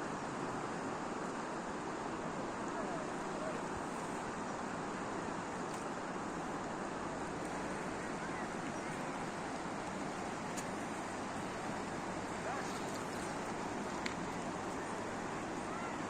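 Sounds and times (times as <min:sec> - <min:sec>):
fast-flowing river rushing: 0:00.0 - 0:16.0.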